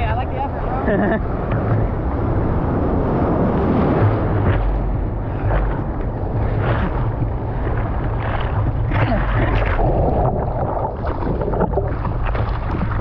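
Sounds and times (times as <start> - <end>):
ocean surf rushing: 0.0 - 13.0
wind buffeting microphone: 0.0 - 13.0.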